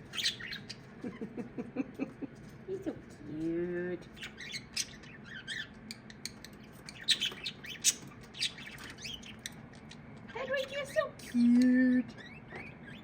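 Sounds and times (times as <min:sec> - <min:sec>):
birds squawking and chirping: 0:00.0 - 0:01.5, 0:04.0 - 0:13.0.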